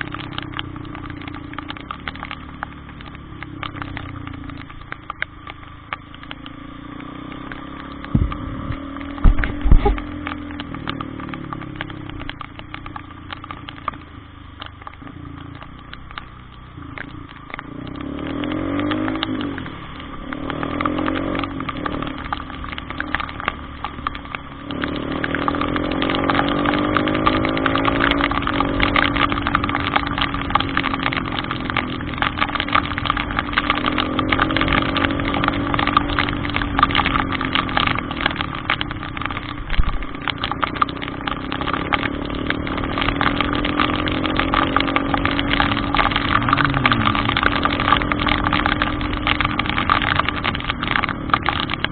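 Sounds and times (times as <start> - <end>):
heavy rain crackle: 0.0 - 51.9
vehicle engine running: 0.0 - 51.9.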